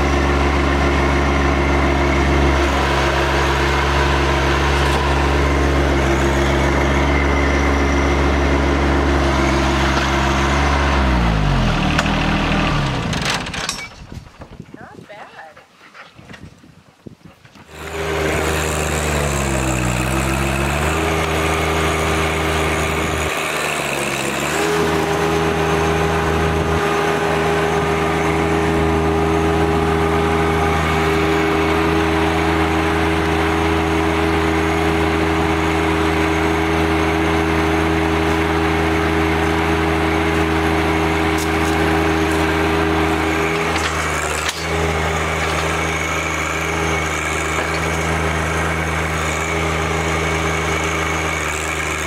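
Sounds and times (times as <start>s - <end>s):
tractor engine running: 0.0s - 15.4s, 17.7s - 52.0s.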